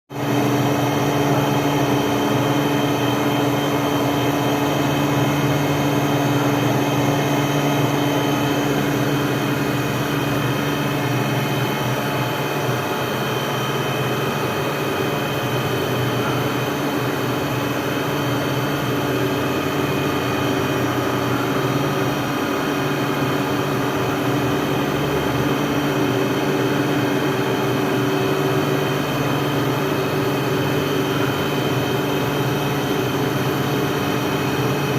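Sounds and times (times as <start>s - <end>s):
machine whining hum: 0.2s - 34.9s.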